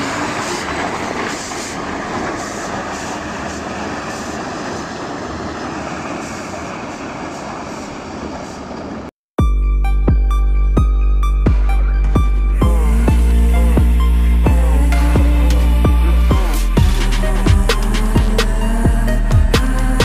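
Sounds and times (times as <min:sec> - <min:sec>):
dump truck engine and tyres: 0:00.0 - 0:20.0.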